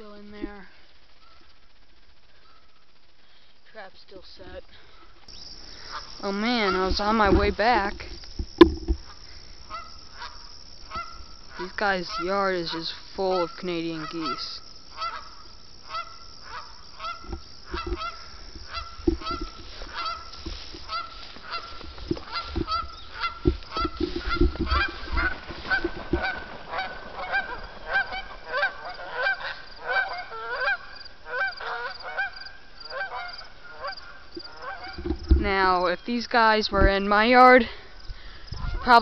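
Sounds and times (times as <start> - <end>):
geese honking: 1.2 - 1.6, 4.5 - 8.3, 8.9 - 37.8.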